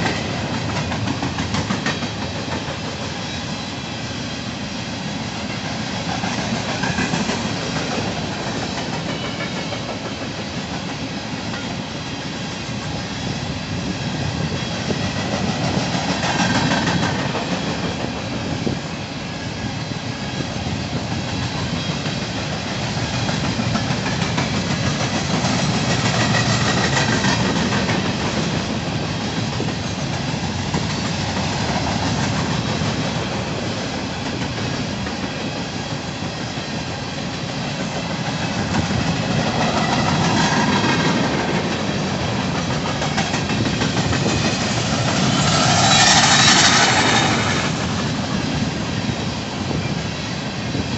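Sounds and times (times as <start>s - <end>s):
freight train wheels on rails: 0.0s - 50.9s.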